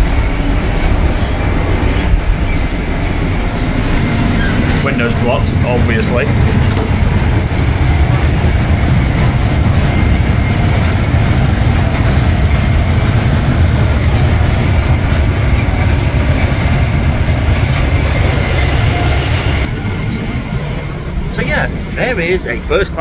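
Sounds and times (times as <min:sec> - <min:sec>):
train rumble and rail noise: 0:00.0 - 0:23.0.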